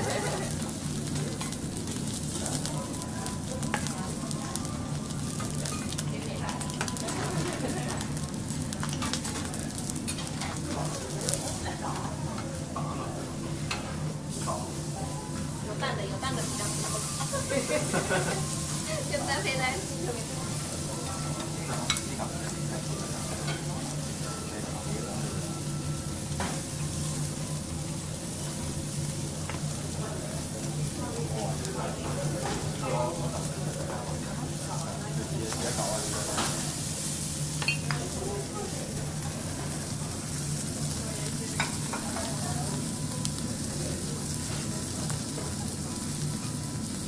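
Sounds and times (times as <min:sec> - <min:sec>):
food sizzling on griddle: 0:00.0 - 0:47.0.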